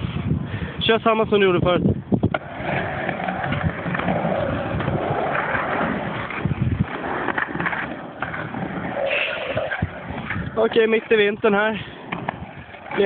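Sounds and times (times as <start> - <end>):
skate wheels rolling on hard floor: 2.2 - 13.0.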